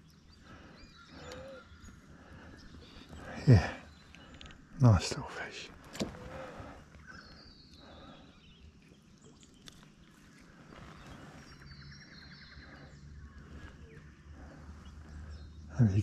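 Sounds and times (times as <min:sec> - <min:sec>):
faint bird calls: 0:00.0 - 0:16.0.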